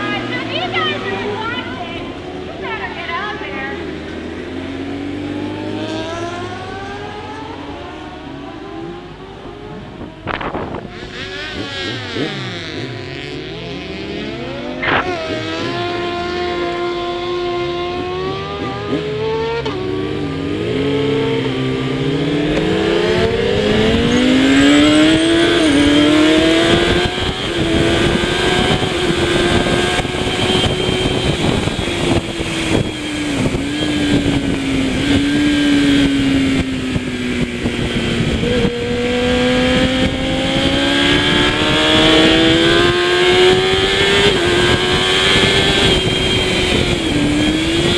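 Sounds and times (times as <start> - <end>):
motorcycle engine running hard: 0.0 - 47.9.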